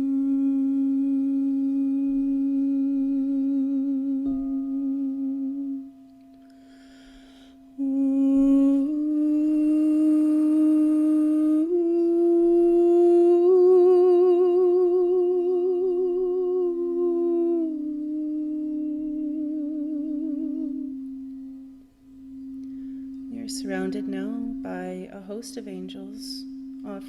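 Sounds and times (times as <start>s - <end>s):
singing bowl ringing drone: 0.0s - 27.0s
woman humming long notes: 0.0s - 27.0s.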